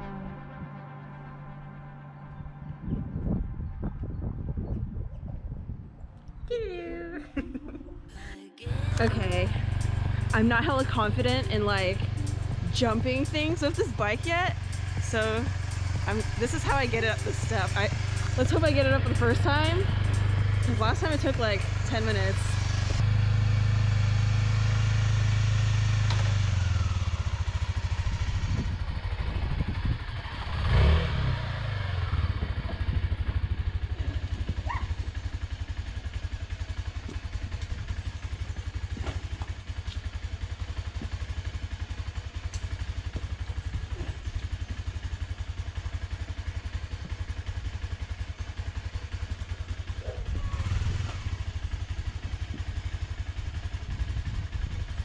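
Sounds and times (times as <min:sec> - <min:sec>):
motorcycle engine idling and revving: 0:02.6 - 0:06.4, 0:08.6 - 0:55.0.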